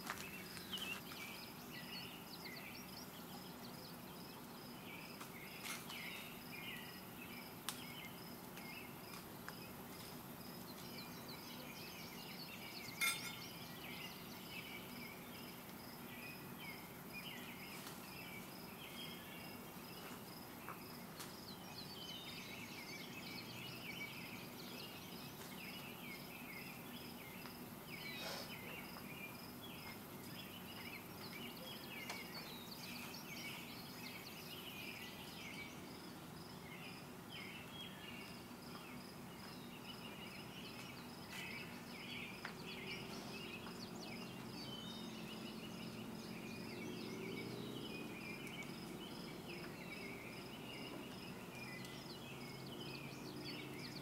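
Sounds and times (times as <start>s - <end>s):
birds twittering: 0.0s - 54.0s
insect chirping in steady pulse: 0.0s - 54.0s.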